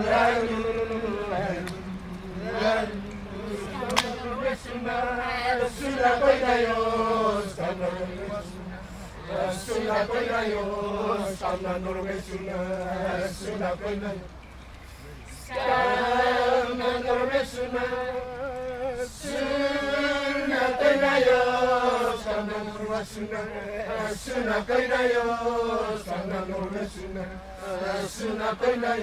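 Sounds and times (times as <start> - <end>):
performers chanting: 0.0 - 29.0.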